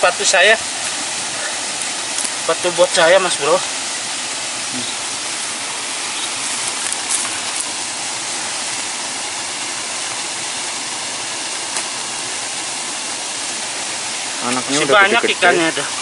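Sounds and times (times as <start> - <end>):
river rushing: 0.0 - 16.0
waterfall: 0.0 - 16.0.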